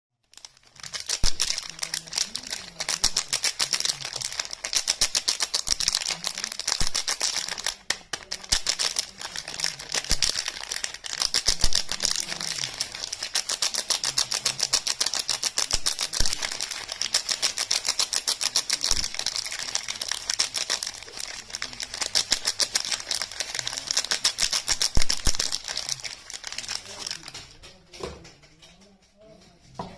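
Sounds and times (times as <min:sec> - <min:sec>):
soap crackling and clicking: 0:00.2 - 0:28.9.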